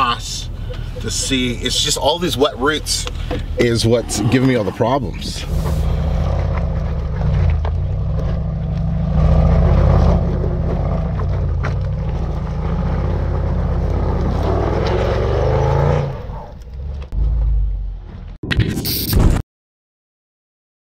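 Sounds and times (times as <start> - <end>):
engine rumbling under load: 0.0 - 18.4.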